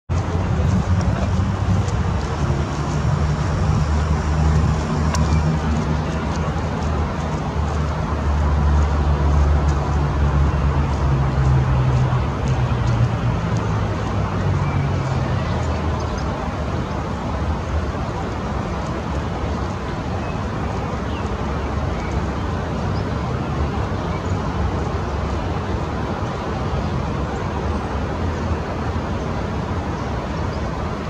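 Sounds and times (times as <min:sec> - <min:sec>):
vehicle engine rumble: 0:00.1 - 0:31.0.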